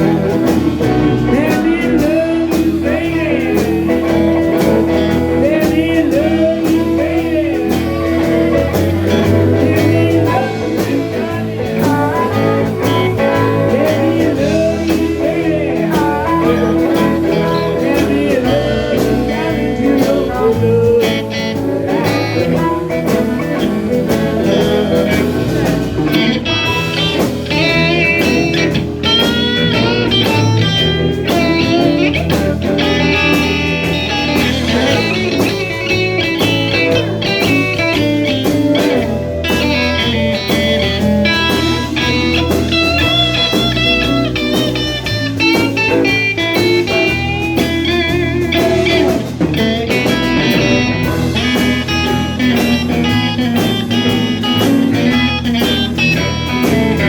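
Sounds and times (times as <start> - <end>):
guitar lead with bent notes: 0.0 - 57.0
live blues band playing: 0.0 - 57.0.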